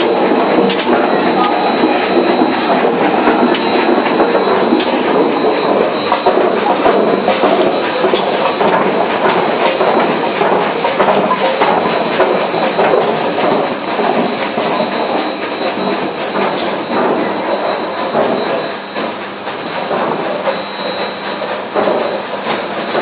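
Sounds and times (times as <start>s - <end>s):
machine clattering rattle: 0.0s - 23.0s.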